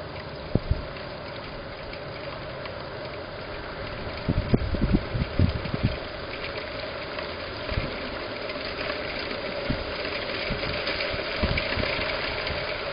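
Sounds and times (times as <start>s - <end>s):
wind and rain hiss: 0.0s - 12.9s
wind buffeting microphone: 0.4s - 2.2s, 3.3s - 12.9s.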